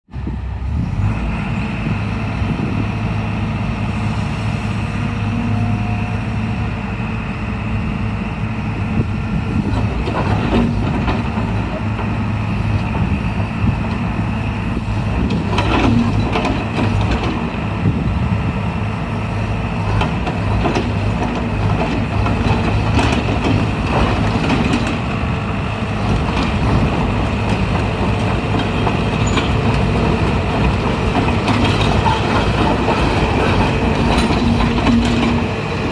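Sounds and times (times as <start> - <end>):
excavator diesel engine humming: 0.1 - 35.9.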